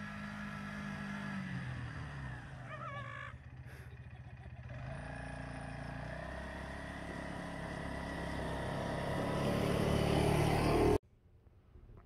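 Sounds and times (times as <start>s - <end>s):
vehicle engine approaching: 0.0s - 11.0s.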